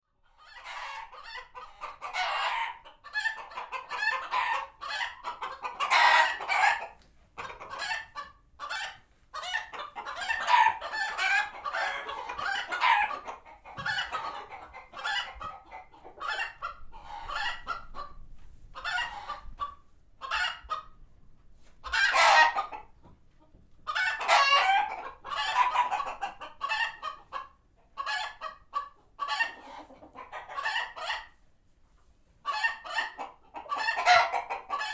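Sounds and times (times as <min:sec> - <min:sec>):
chickens clucking and squawking: 0:00.2 - 0:31.6, 0:32.3 - 0:34.9.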